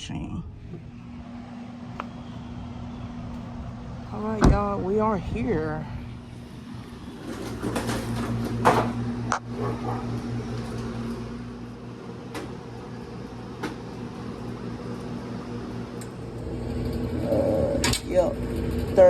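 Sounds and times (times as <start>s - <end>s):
pulsing machine hum: 0.0s - 19.0s.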